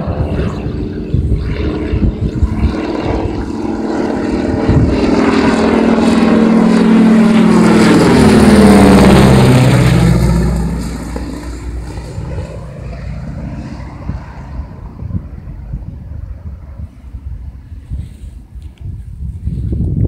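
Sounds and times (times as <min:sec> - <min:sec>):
propeller airplane flying overhead: 0:00.0 - 0:20.0.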